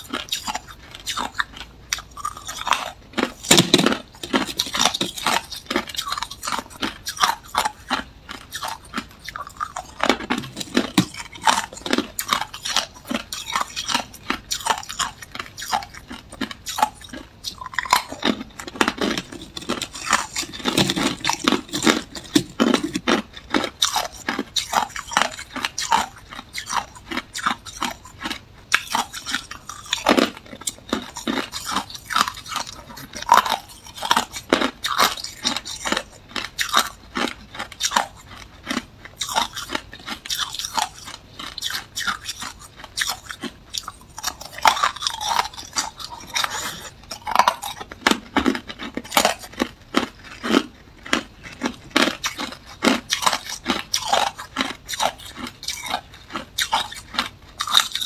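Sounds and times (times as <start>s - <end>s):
ice being crunched by teeth: 0.1s - 58.0s.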